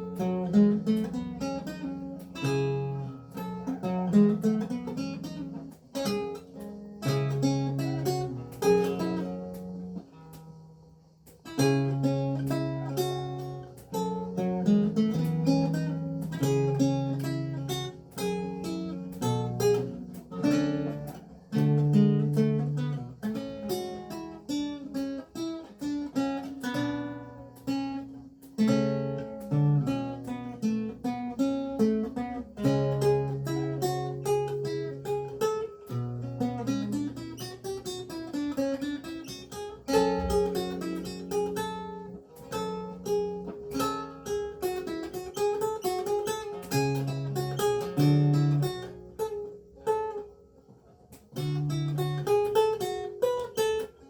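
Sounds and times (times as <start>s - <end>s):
solo lute playing: 0.0s - 10.6s, 11.3s - 50.3s, 51.2s - 54.0s.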